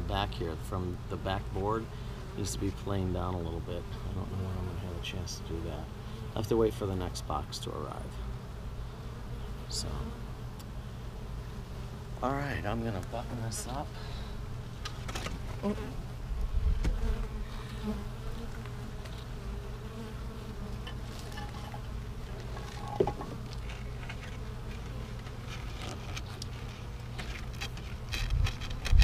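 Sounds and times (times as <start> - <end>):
bees buzzing: 0.0 - 29.0
bee buzzing close past: 0.1 - 29.0.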